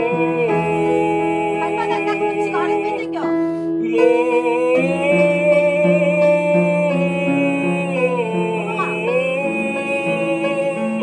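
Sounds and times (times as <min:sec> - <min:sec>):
person singing a long note: 0:00.0 - 0:11.0
piano accompaniment: 0:00.0 - 0:11.0.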